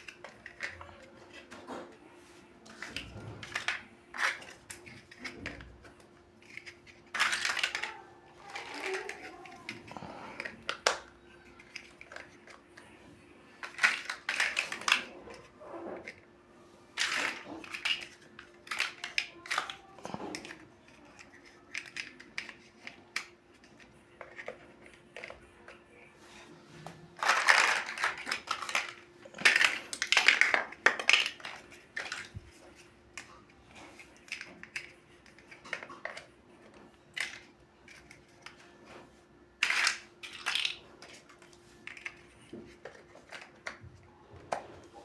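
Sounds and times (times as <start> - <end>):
plastic blocks clicking together: 0.0 - 2.0, 2.7 - 12.9, 13.5 - 16.2, 17.0 - 25.8, 27.2 - 38.7, 39.6 - 44.6.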